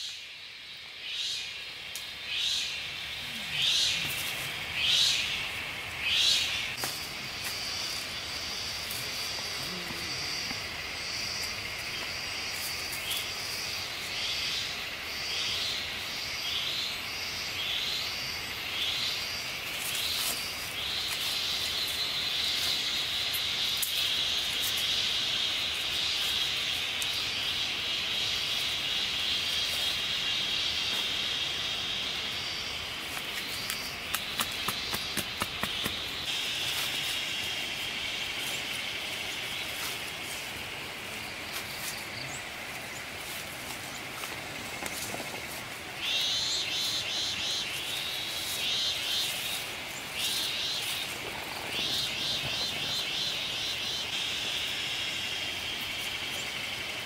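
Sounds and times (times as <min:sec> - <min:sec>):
insects buzzing chorus: 0:00.0 - 0:57.0.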